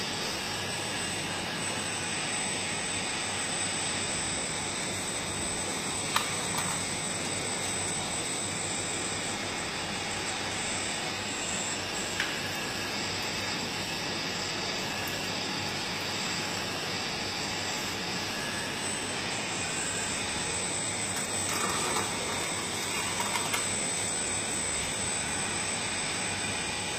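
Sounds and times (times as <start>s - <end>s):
high constant whine: 0.0s - 26.9s.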